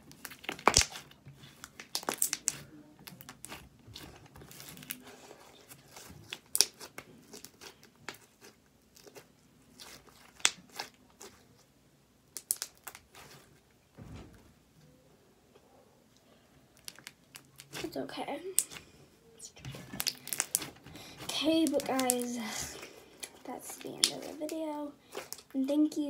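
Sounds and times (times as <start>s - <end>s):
slime clicking and crackling: 0.0s - 11.7s, 12.3s - 13.4s, 16.7s - 18.9s, 19.5s - 25.8s.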